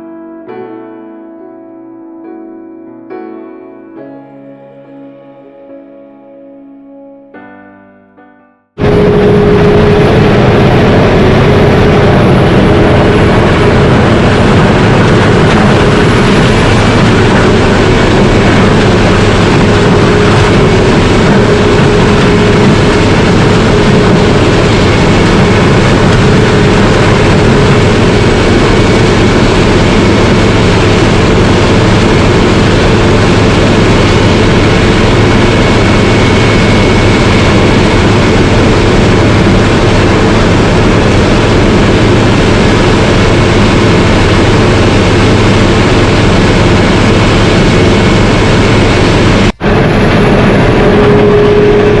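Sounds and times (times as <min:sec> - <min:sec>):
grinder engine droning: 0:08.8 - 0:52.0.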